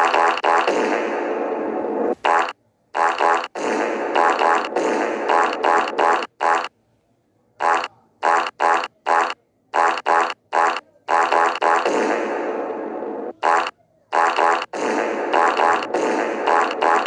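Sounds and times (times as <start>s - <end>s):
cartoon farts: 0.0s - 6.7s, 7.6s - 17.0s.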